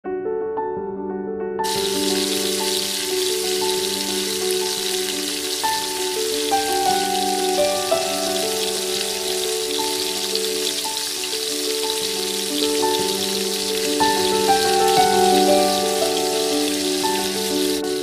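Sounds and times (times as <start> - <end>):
soft background music: 0.0 - 18.0
onions sizzling in oil: 1.7 - 18.0.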